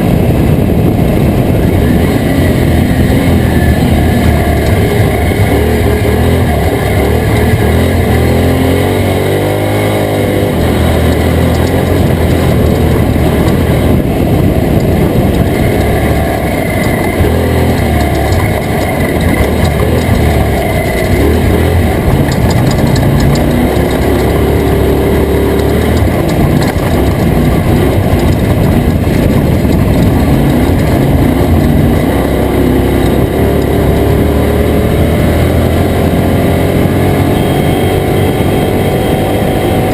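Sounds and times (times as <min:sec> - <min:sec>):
road and wind noise: 0:00.0 - 0:39.9
truck engine running hard: 0:00.0 - 0:39.9.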